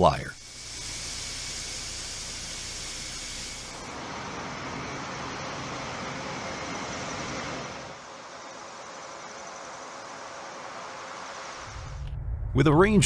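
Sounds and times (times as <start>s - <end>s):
turboprop engines running: 0.0s - 12.2s.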